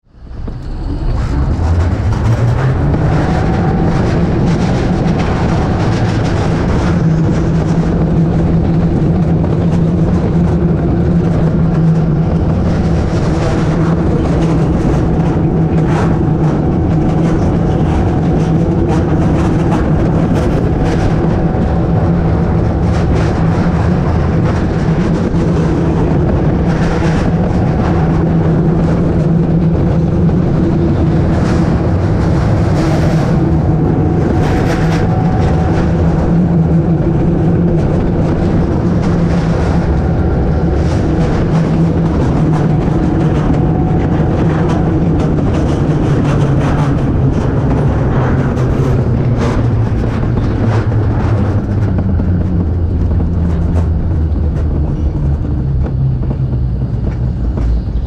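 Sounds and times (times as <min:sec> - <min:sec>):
sled rolling on steel track: 0:00.0 - 0:58.0.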